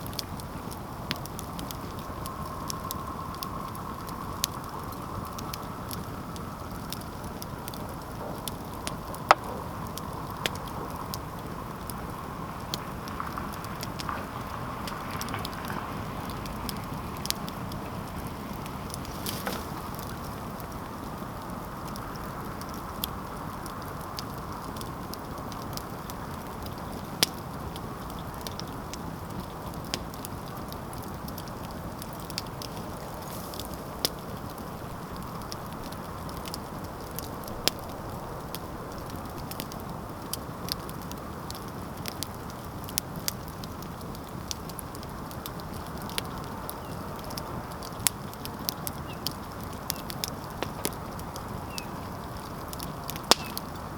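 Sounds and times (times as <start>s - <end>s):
campfire crackling: 0.0s - 53.9s
fire popping and snapping: 0.0s - 53.9s.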